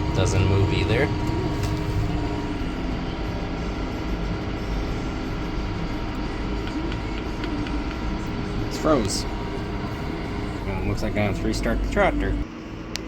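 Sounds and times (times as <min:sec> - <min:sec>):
tractor engine running: 0:00.0 - 0:12.5.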